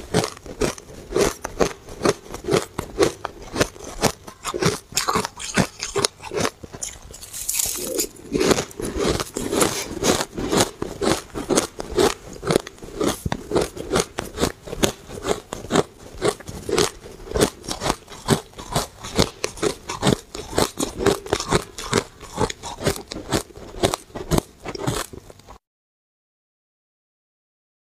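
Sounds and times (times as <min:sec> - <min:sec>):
ice crunched between teeth: 0:00.1 - 0:25.6.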